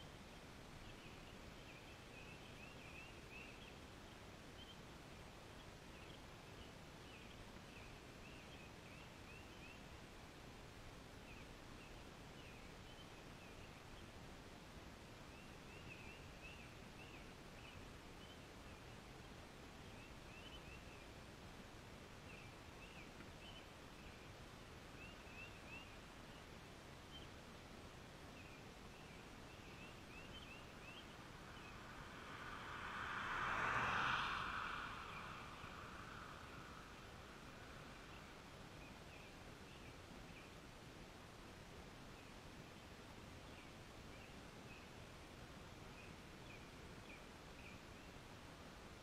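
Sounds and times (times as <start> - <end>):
distant birds chirping: 0.4 - 48.3.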